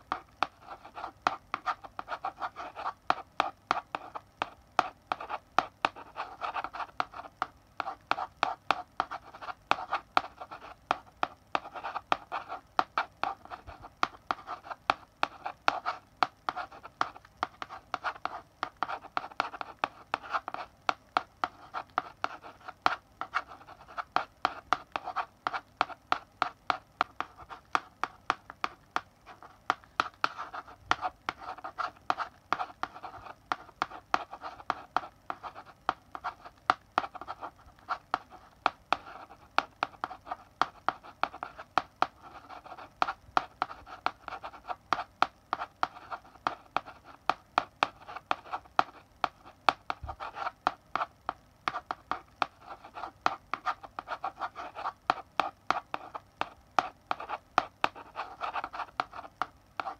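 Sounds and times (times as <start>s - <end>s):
chalk tip tapping: 0.0s - 59.9s
chalk scratching on blackboard: 0.1s - 51.1s, 51.7s - 59.9s.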